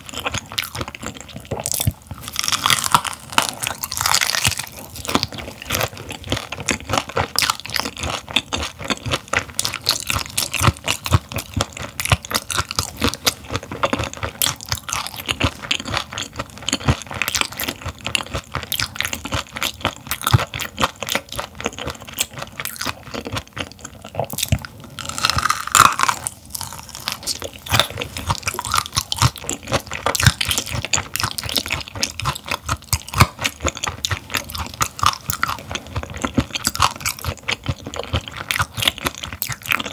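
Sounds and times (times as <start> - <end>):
close chewing with crunches: 0.0 - 39.9
wet mouth sounds: 0.0 - 39.9.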